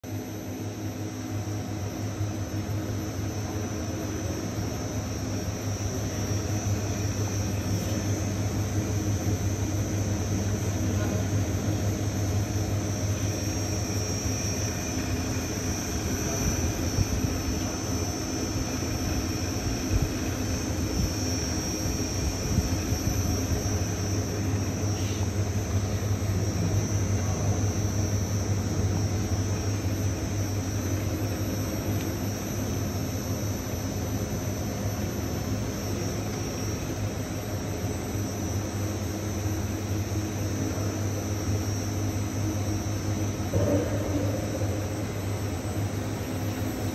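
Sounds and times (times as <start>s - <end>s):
machine drone with high whine: 0.0s - 46.9s.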